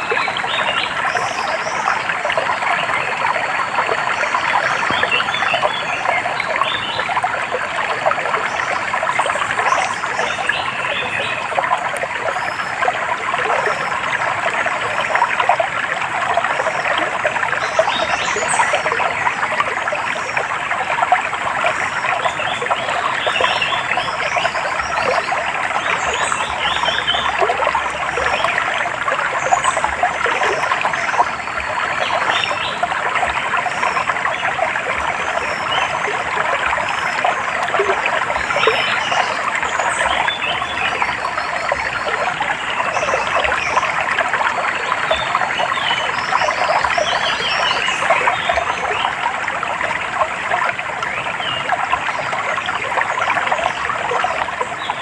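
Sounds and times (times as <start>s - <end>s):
stream water babbling: 0.0s - 55.0s.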